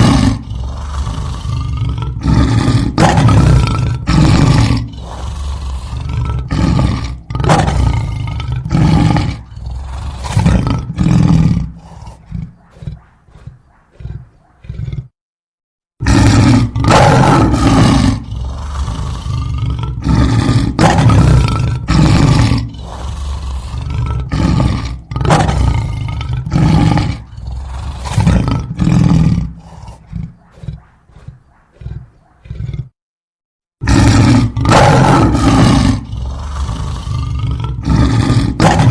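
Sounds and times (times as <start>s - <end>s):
animal roaring: 0.0s - 15.1s, 16.0s - 33.0s, 33.8s - 38.9s.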